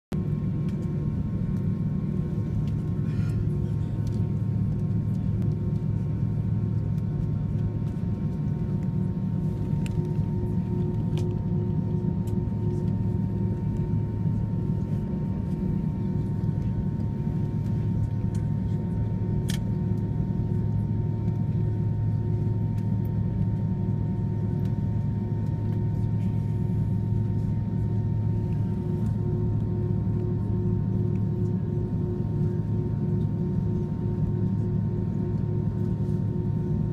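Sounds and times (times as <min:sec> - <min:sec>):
airliner droning hum: 0:00.1 - 0:36.9.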